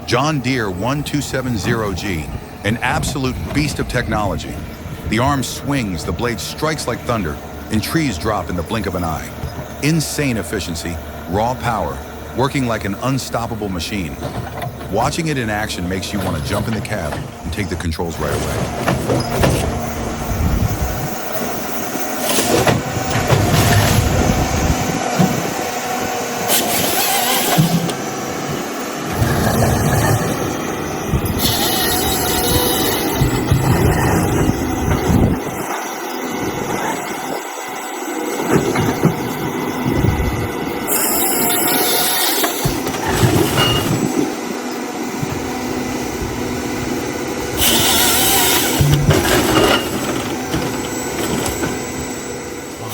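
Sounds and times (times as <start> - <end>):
harvester engine under load: 0.0 - 52.9
heavy machine running: 0.0 - 52.9.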